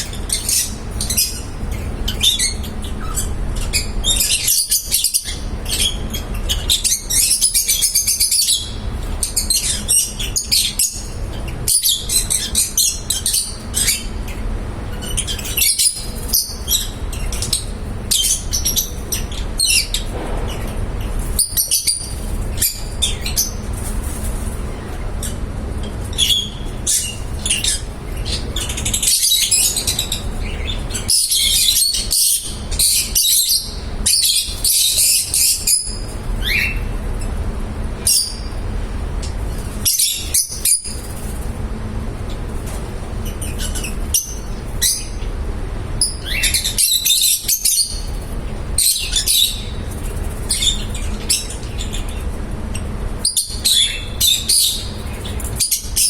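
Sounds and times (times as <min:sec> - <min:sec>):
lovebirds chirping: 0:00.0 - 0:41.4, 0:42.3 - 0:56.0
steady low hum: 0:00.0 - 0:56.0.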